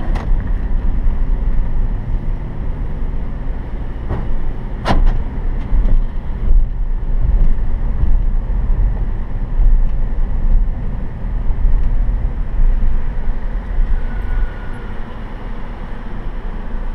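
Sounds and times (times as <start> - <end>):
car driving on pavement: 0.0 - 16.9.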